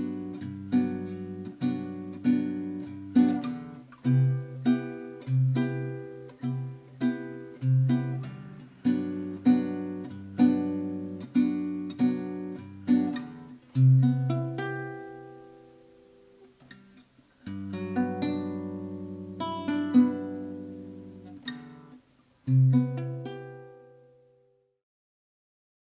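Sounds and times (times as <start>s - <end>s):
fingerstyle classical guitar: 0.0s - 24.7s.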